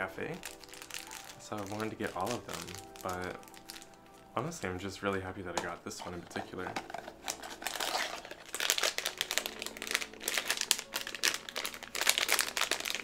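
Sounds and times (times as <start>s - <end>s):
plastic wrapper crinkling: 0.3s - 4.6s, 5.8s - 13.0s.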